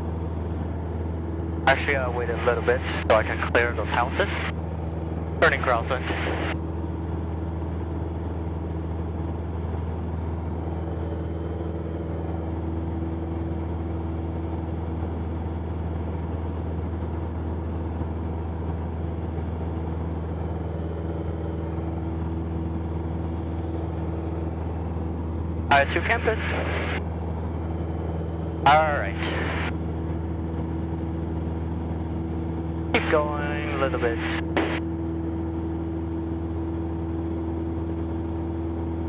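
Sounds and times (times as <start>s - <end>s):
propeller plane engine droning: 0.0s - 39.0s.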